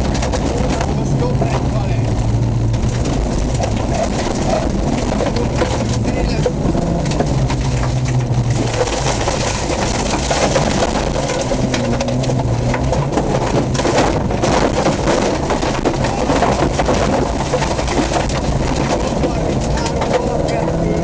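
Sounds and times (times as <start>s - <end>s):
body and suspension rattling: 0.0s - 21.0s
off-road vehicle engine revving: 0.0s - 21.0s.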